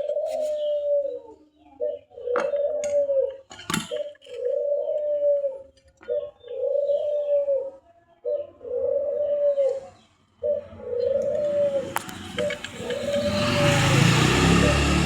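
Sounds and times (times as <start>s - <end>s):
bird cooing: 0.0s - 15.0s.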